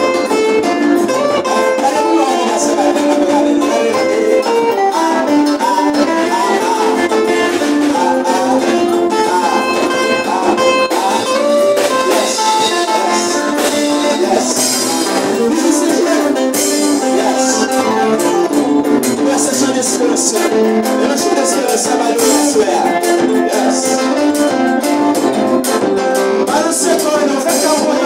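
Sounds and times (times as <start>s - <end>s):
drum kit: 0.0s - 28.0s
electric guitar melody: 0.0s - 28.0s
keyboard: 0.0s - 28.0s.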